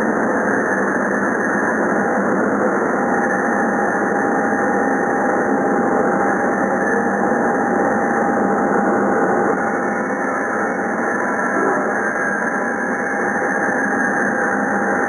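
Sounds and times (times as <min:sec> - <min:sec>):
laser cutting machine running: 0:00.0 - 0:15.0.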